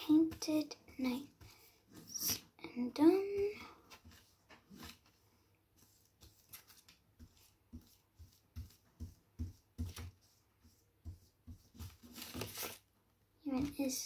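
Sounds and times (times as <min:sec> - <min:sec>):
paintbrush dabbing on paper: 0:00.0 - 0:12.8.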